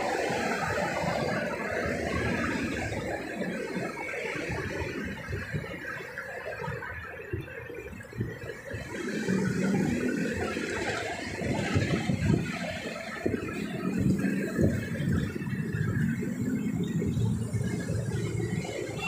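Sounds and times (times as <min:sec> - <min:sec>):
expressway traffic rushing: 0:00.0 - 0:19.0.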